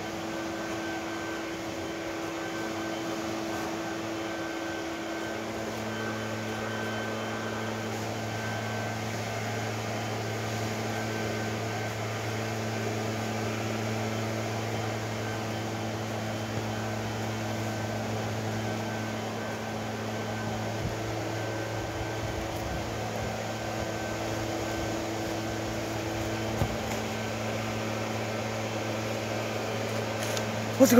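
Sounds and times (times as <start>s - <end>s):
motor humming: 0.0s - 30.9s.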